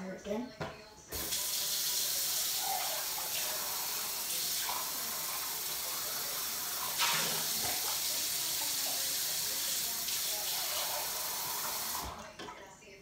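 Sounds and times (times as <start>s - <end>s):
water tap running: 1.1s - 12.2s.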